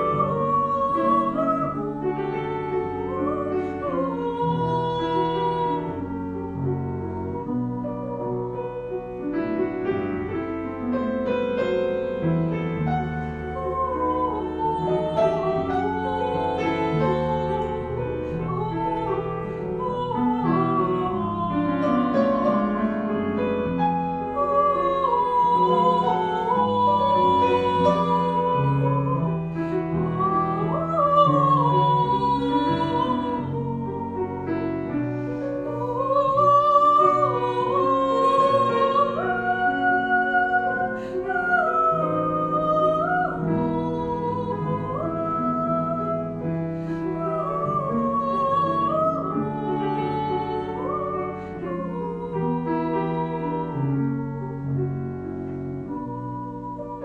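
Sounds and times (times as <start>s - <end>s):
grand piano accompaniment: 0.0s - 57.0s
soprano singing with vibrato: 0.0s - 57.0s.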